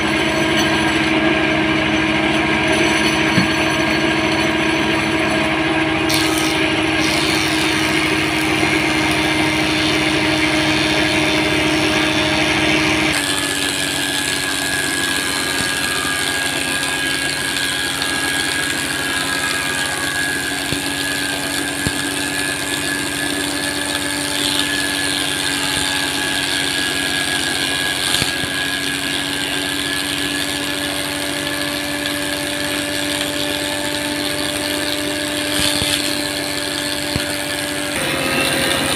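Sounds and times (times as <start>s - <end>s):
thickness planer running: 0.0s - 38.9s.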